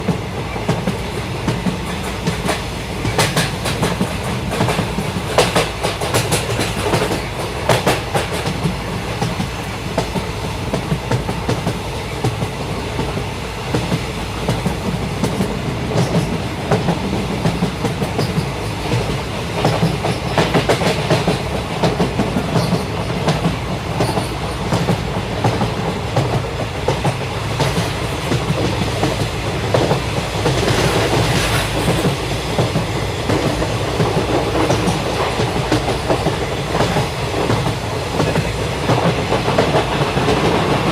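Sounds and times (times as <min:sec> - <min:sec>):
train rumbling: 0:00.0 - 0:40.9
wheels clacking over rail joints: 0:00.0 - 0:40.9.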